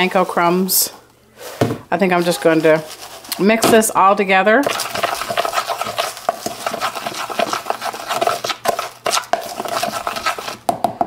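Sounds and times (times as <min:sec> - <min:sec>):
spoon scraping dry mix: 0:00.0 - 0:00.9, 0:01.5 - 0:10.7.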